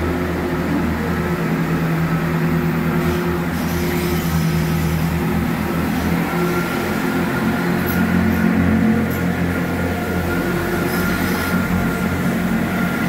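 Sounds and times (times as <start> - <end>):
train diesel engine drone: 0.0 - 13.0.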